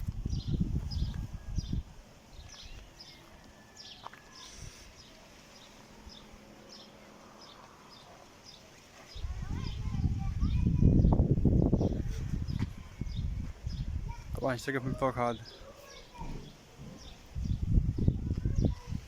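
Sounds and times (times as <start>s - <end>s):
small birds chirping: 0.2s - 19.0s.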